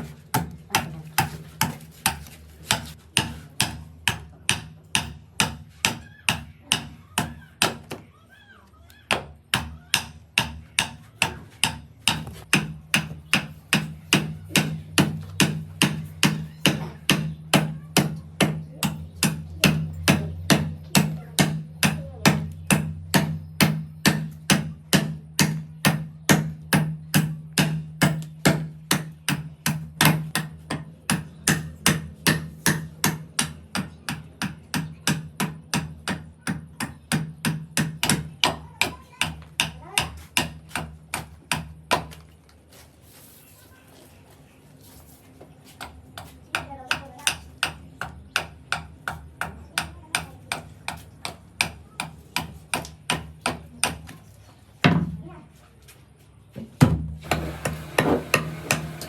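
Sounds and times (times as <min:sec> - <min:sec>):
hand hammering: 0:00.0 - 0:08.0, 0:09.1 - 0:42.2, 0:45.8 - 0:54.2.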